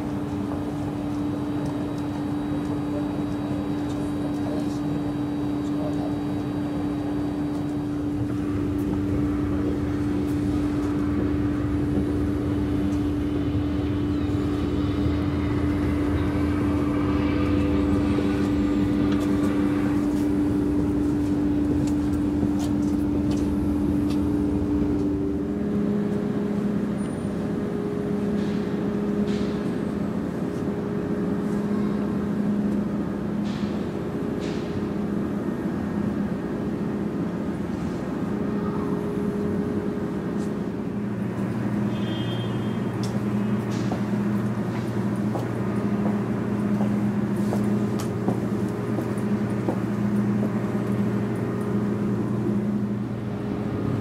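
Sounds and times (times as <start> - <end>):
mechanical droning hum: 0.0 - 54.0.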